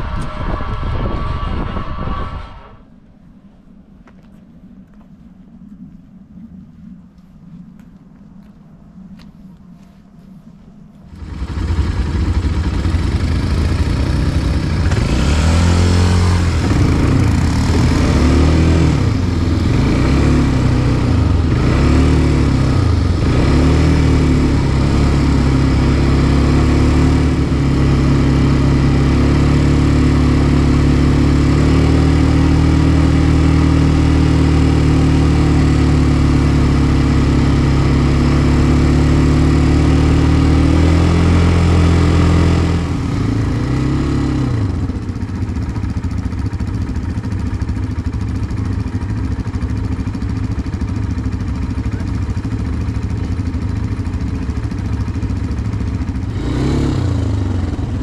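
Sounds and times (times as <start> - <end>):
quad bike engine revving: 11.1 - 58.0.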